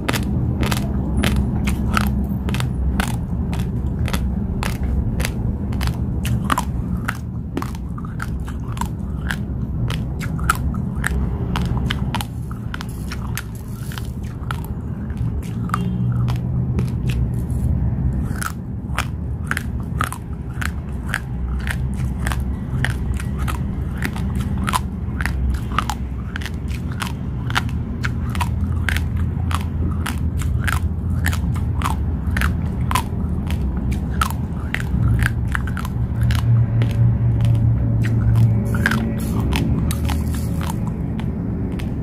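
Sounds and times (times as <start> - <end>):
raw rice crunching: 0.0 - 42.0.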